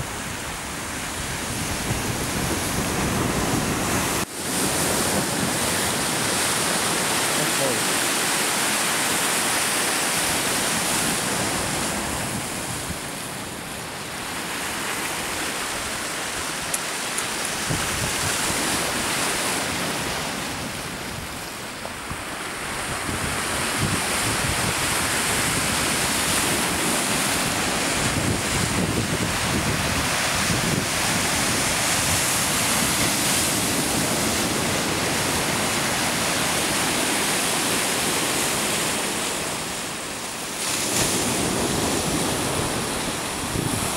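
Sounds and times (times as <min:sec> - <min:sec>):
wind buffeting microphone: 0:00.0 - 0:07.2, 0:10.2 - 0:39.7, 0:40.8 - 0:43.9
waves washing against icy shore: 0:00.0 - 0:43.9.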